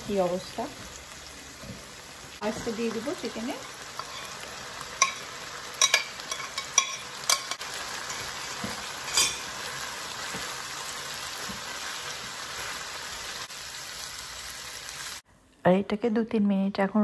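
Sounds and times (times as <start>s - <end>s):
food sizzling in a frying pan: 0.0s - 15.2s.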